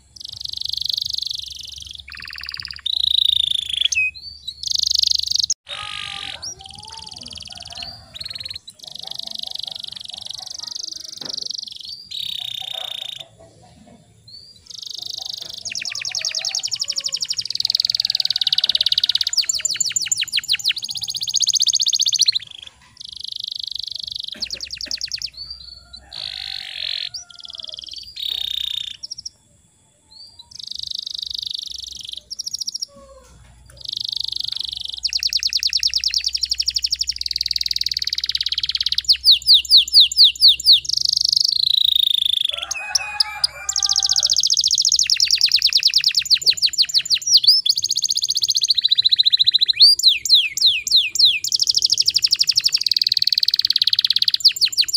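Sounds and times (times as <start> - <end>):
canary singing with trills: 0.0 - 54.9.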